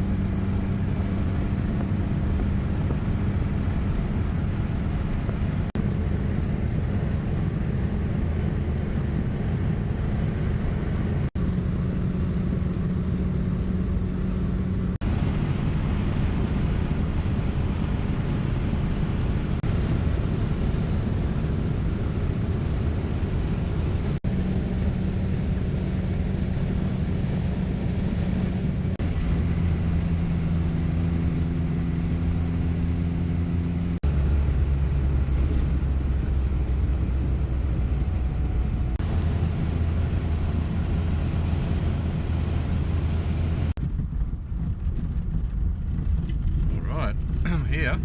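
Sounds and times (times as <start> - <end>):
car engine droning: 0.0 - 48.0
road noise: 0.0 - 48.0.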